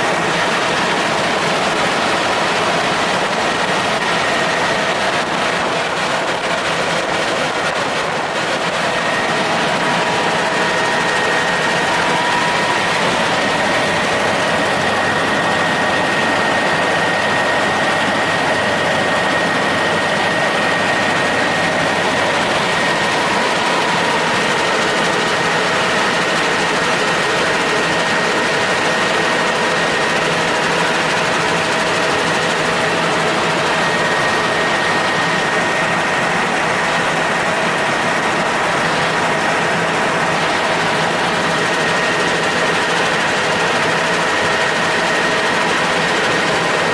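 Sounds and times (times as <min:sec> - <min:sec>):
helicopter engine and rotor: 0:00.0 - 0:46.9.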